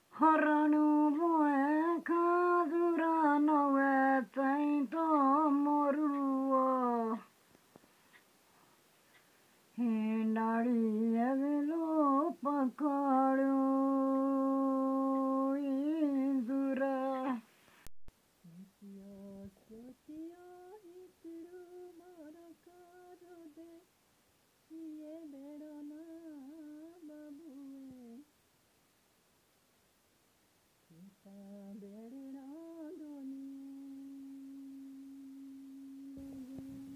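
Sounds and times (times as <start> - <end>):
woman singing wordless melody: 0.0 - 7.4, 9.7 - 17.5, 18.4 - 24.0, 24.6 - 28.4, 30.9 - 36.9
woman humming: 0.2 - 7.3, 9.8 - 17.4, 18.4 - 23.8, 24.7 - 28.3, 30.9 - 36.9.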